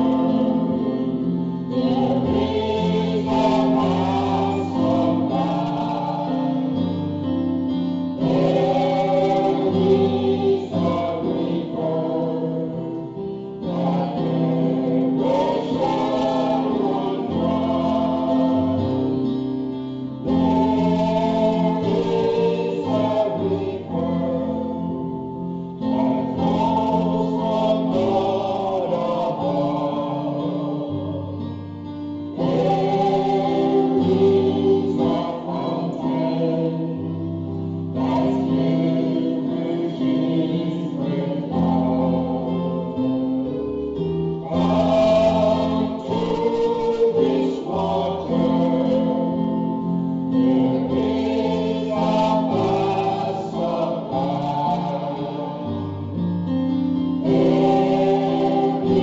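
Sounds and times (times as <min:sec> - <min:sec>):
choir singing gospel: 0:00.0 - 0:59.0
keyboard accompaniment: 0:00.0 - 0:59.0.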